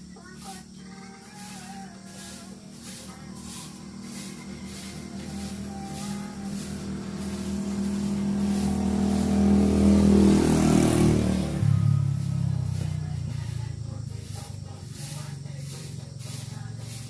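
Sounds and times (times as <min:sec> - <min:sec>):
vehicle driving past: 0:01.3 - 0:17.0.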